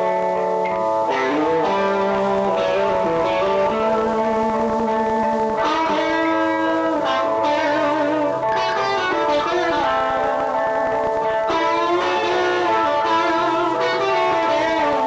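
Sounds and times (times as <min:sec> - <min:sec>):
electric guitars playing chords: 0:00.0 - 0:15.0.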